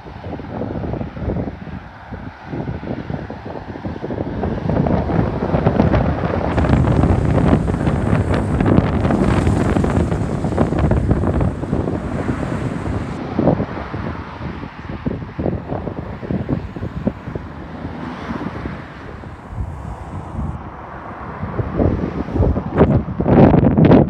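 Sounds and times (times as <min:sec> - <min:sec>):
gusty wind buffeting microphone: 0:00.2 - 0:24.0.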